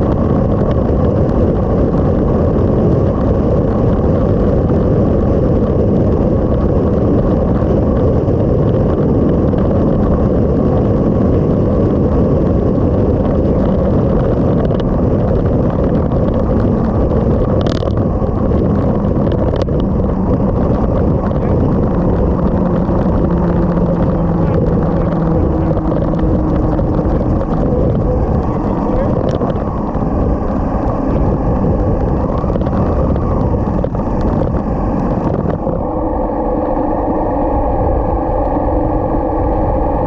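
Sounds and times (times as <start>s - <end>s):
motorcycle engine: 0.0s - 40.0s
wind rumble on microphone: 0.0s - 40.0s.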